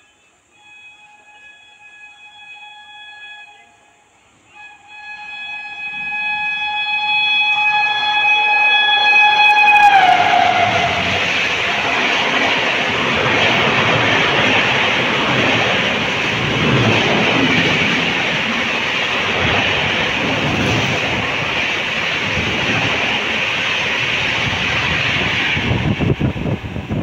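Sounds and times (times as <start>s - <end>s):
train coaches passing at speed: 0.0s - 27.0s.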